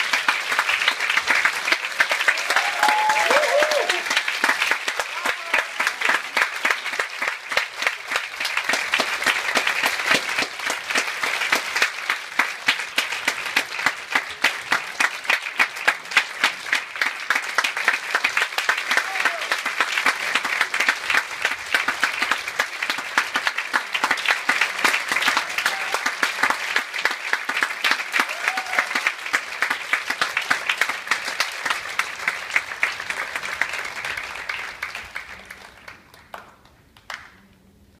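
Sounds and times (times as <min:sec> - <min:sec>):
audience applauding: 0:00.0 - 0:37.5.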